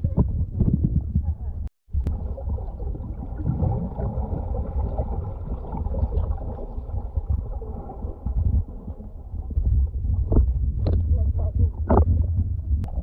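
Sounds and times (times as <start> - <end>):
muffled underwater rumble: 0.0 - 13.0
water bubbling and swishing: 0.0 - 13.0.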